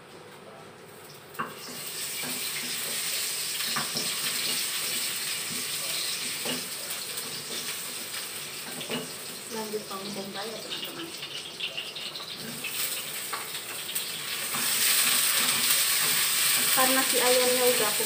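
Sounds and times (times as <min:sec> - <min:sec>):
onion sizzling in hot oil: 0:01.1 - 0:18.0.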